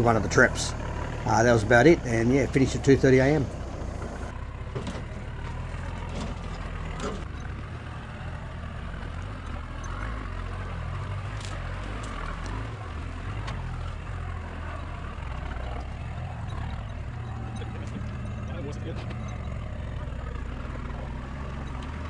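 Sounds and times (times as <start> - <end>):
vehicle engine running low: 0.0 - 22.0.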